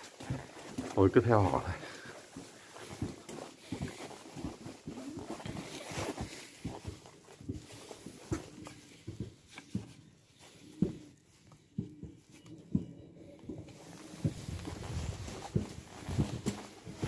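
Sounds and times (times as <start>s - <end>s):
footsteps walking: 0.0s - 17.0s.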